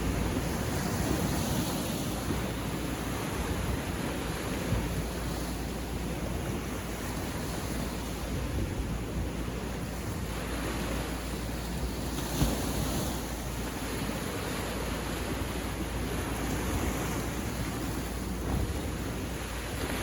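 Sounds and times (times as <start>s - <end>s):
waves washing on beach: 0.0s - 20.0s.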